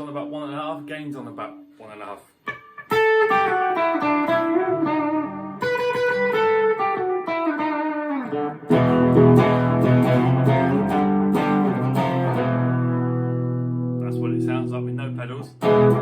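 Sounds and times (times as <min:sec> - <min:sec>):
clean electric guitar: 0:00.0 - 0:16.0.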